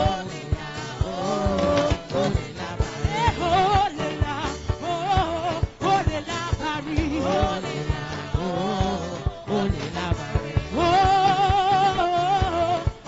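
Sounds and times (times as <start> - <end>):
person singing gospel: 0.0 - 13.0
steady drum beat: 0.0 - 13.0.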